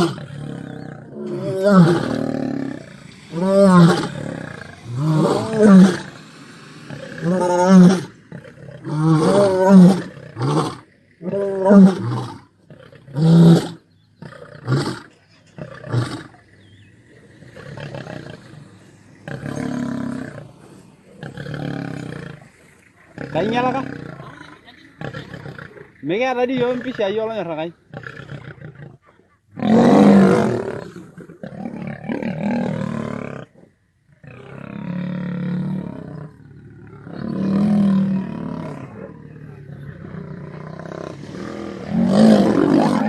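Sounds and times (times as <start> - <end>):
lions roaring and growling: 0.0 - 26.0, 27.8 - 43.0.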